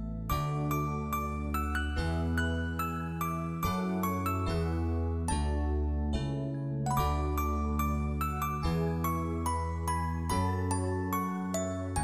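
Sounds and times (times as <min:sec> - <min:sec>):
light melody over low chords: 0:00.0 - 0:12.0.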